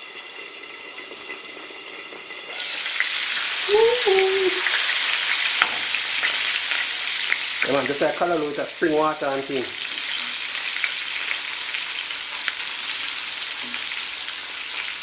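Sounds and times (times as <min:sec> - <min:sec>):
okra sizzling in oil: 0:00.0 - 0:15.0.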